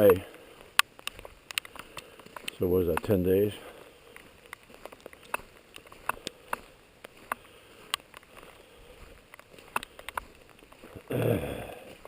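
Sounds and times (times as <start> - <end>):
faint background rain: 0.0 - 12.0
raindrops ticking close by: 0.0 - 12.0.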